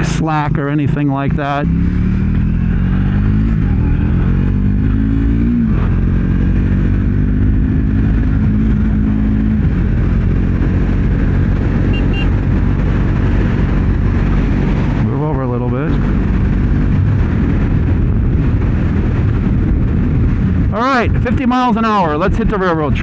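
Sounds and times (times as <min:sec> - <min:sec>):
motorcycle engine accelerating: 0:00.0 - 0:21.8
wind and road noise: 0:00.0 - 0:23.0.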